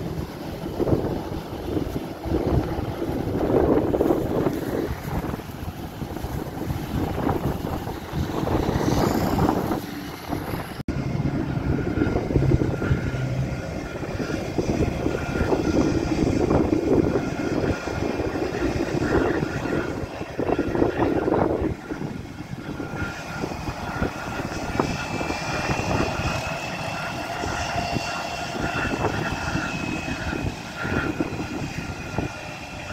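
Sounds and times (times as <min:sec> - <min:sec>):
jet engines running: 0:00.0 - 0:32.9
wind gusting on microphone: 0:00.0 - 0:32.9.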